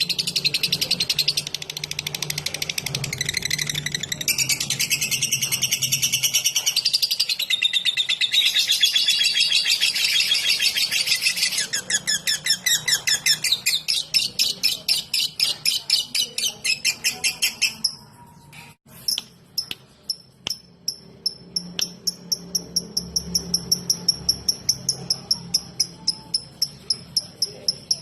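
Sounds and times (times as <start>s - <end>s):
lovebird chirps: 0.0s - 28.0s.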